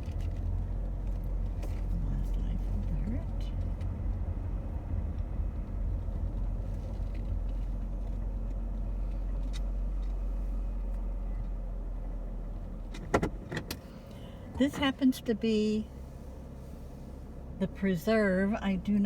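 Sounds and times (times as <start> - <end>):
road and engine rumble in cabin: 0.0 - 19.0.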